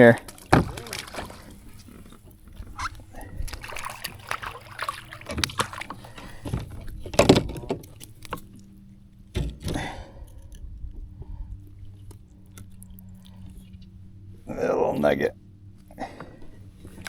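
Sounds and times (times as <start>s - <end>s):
gear knocking against kayak: 0.0s - 14.4s
water sloshing: 0.0s - 17.0s.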